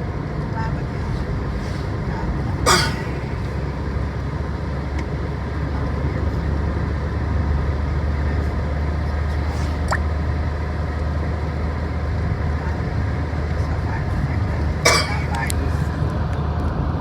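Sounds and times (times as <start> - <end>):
car interior hum: 0.0 - 16.1.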